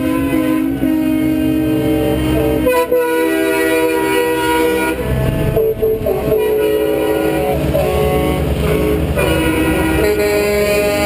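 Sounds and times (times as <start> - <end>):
diesel engines rumbling: 0.0 - 11.0
truck air horns blowing: 0.0 - 11.0.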